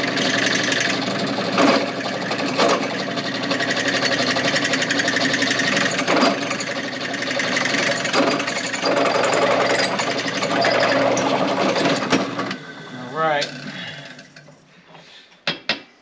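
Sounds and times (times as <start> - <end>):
drill press cutting metal: 0.0 - 14.6.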